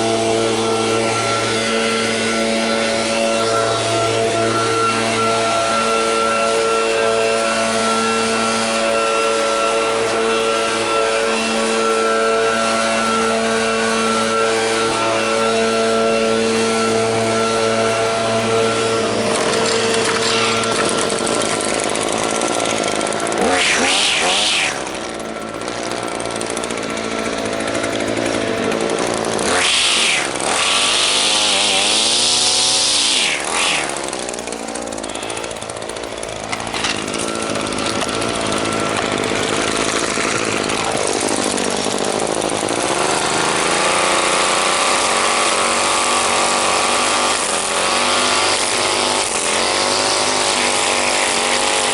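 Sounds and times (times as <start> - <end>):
two-stroke engine running: 0.0 - 51.9.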